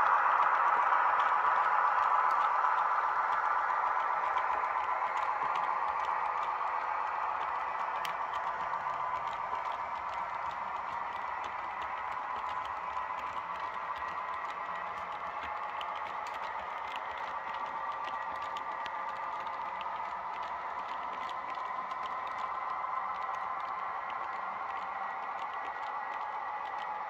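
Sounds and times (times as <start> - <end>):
model train rattling on track: 0.0 - 27.0.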